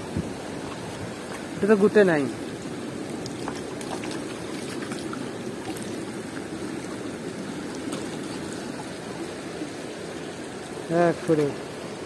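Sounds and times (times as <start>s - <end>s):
stream water trickling over stones: 0.0s - 12.0s.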